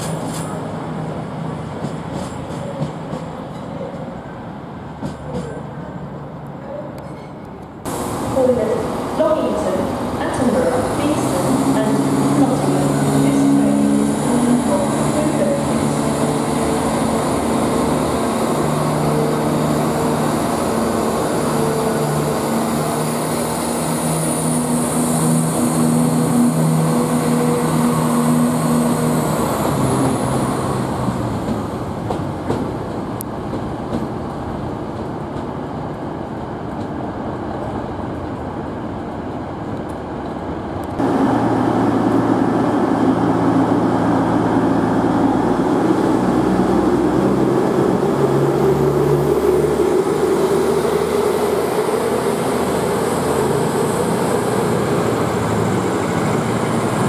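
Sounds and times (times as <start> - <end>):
diesel train engines whining: 0.0 - 57.0.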